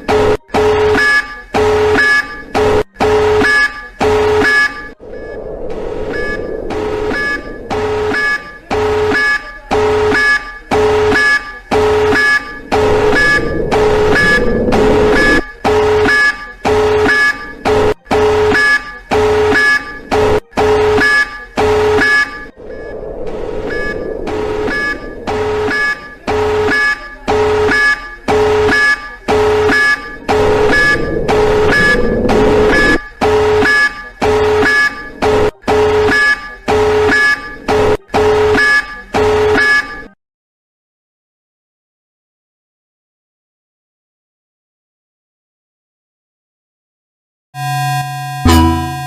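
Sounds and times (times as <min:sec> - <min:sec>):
buzzy two-tone alarm beeps: 0:00.0 - 0:40.2, 0:47.6 - 0:49.0.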